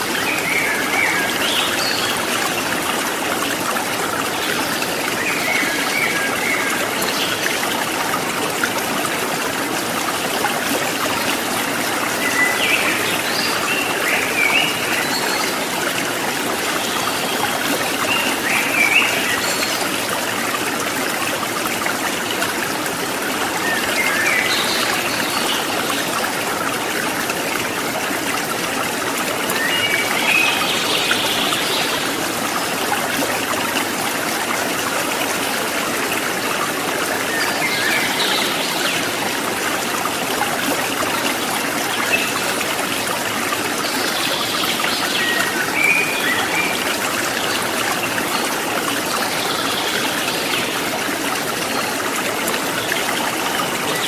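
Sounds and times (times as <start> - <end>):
water babbling over rocks: 0.0 - 54.0.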